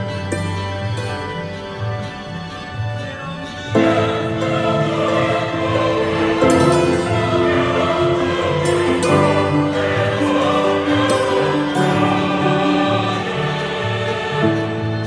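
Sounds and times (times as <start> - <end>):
choral singing in long notes: 0.0 - 15.0.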